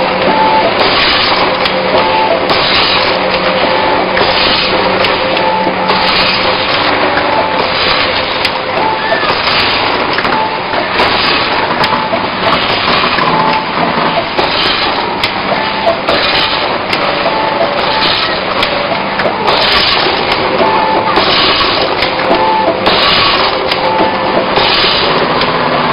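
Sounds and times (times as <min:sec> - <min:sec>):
short repeating tones: 0:00.0 - 0:25.5
factory noise: 0:00.0 - 0:25.9
machine mechanical clatter: 0:00.0 - 0:25.9.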